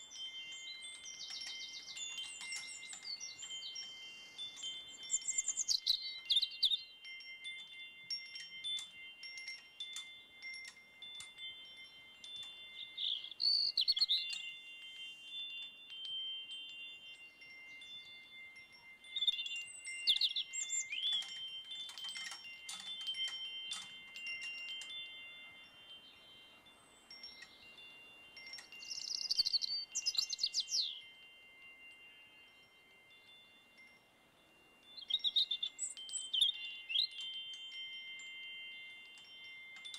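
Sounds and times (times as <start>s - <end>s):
metal wind chimes tinkling: 0.0s - 39.9s.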